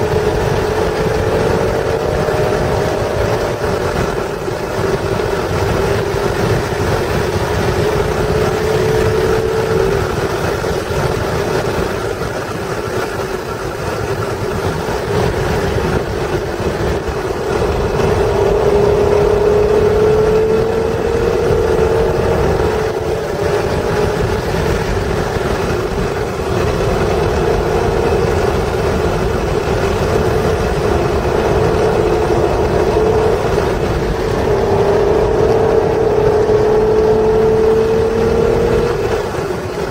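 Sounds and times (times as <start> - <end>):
car engine running hard: 0.0 - 39.9
road and wind noise: 0.0 - 39.9.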